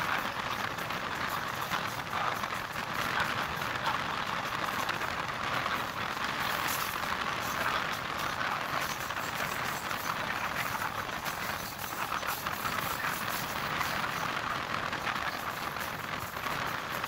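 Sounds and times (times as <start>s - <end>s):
train wheel clatter: 0.0s - 17.0s.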